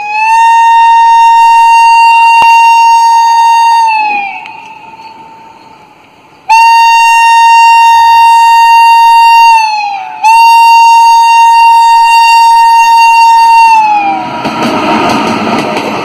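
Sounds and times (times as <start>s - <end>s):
train air horn blasts: 0.0s - 5.6s, 6.5s - 14.2s.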